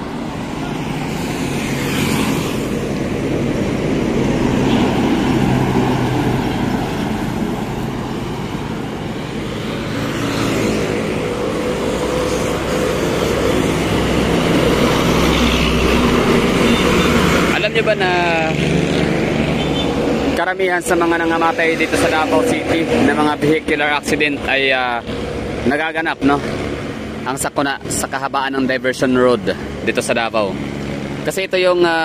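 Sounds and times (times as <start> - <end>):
highway traffic rushing past: 0.0 - 32.0
truck engine hum: 0.0 - 32.0.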